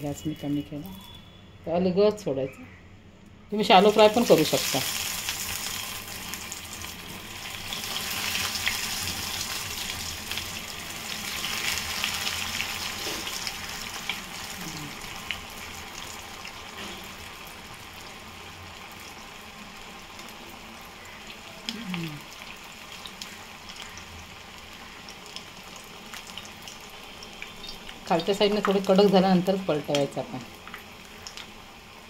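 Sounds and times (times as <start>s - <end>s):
food deep-frying in oil: 0.0s - 1.4s, 3.6s - 32.0s.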